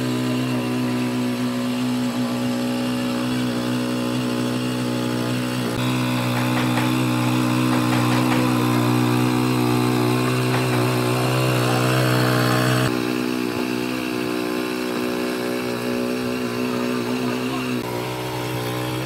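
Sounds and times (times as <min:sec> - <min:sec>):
tiller engine running: 0:00.0 - 0:19.0
tines churning soil: 0:00.0 - 0:19.0.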